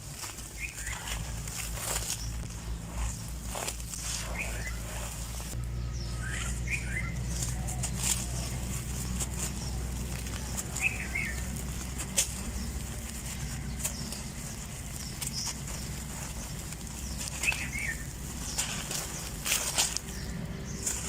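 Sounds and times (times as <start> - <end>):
dirt crumbling and crunching: 0.0 - 21.0
steady low hum: 0.0 - 21.0.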